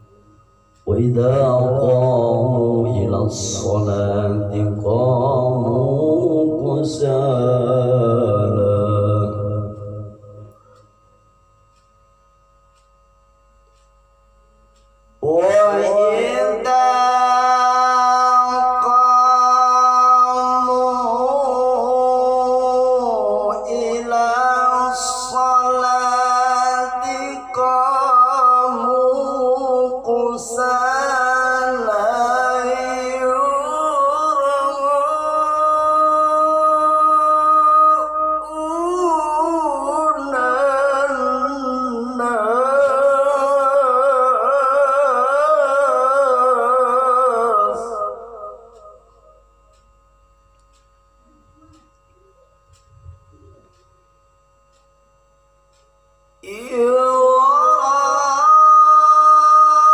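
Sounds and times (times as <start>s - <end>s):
man chanting melodically: 0.0s - 10.9s, 14.7s - 49.8s, 55.7s - 59.9s.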